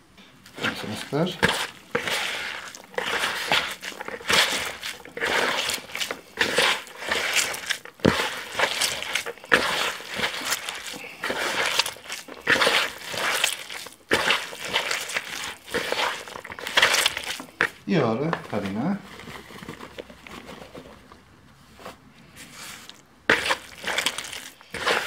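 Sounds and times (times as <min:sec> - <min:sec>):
hand squishing wet potato mixture: 0:00.0 - 0:25.0.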